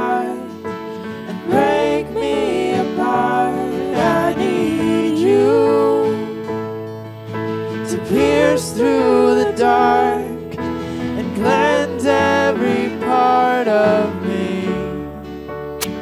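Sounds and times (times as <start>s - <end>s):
acoustic guitar accompaniment: 0.0s - 16.0s.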